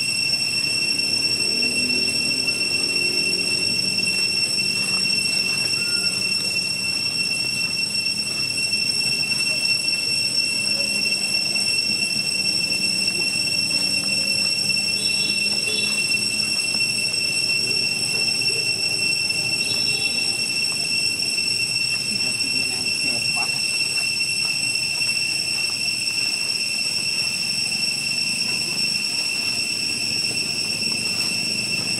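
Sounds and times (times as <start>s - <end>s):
high-pitched whine: 0.0s - 31.9s.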